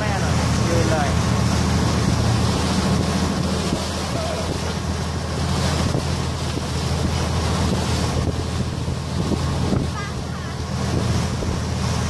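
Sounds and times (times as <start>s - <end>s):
ferry engine humming: 0.0s - 12.0s
rush of boat wake: 0.0s - 12.0s
wind buffeting microphone: 0.0s - 12.0s.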